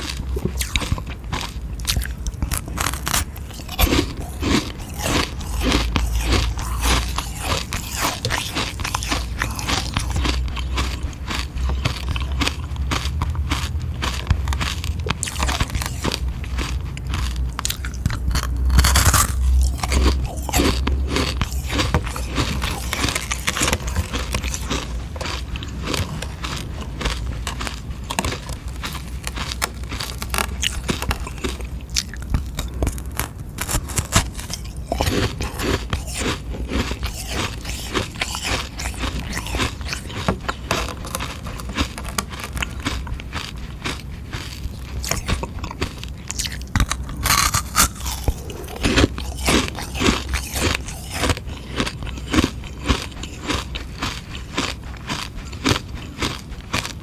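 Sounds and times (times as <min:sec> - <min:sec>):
teeth crunching ice lolly: 0:00.0 - 0:57.0.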